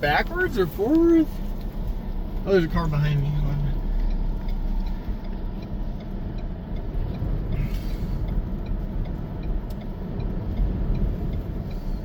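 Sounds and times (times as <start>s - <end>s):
vehicle noise inside car: 0.0s - 12.0s.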